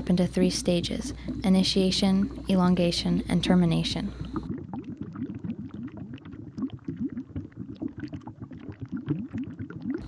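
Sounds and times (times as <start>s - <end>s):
bubbling rising blips: 0.0s - 10.0s.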